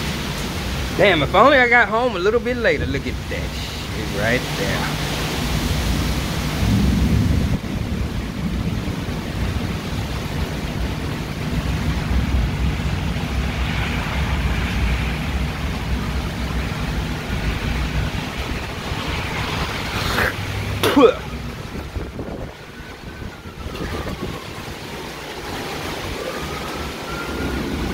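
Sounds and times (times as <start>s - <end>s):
gusting wind: 0.0s - 27.9s
steady rain: 0.0s - 27.9s
wind noise on microphone: 3.0s - 27.9s.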